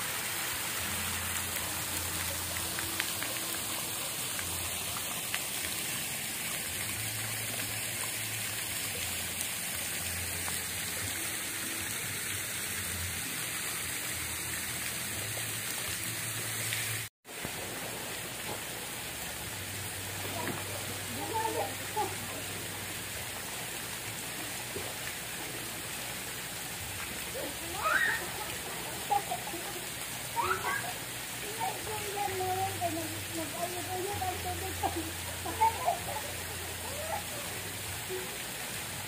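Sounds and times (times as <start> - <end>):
falling water hissing: 0.0 - 39.0.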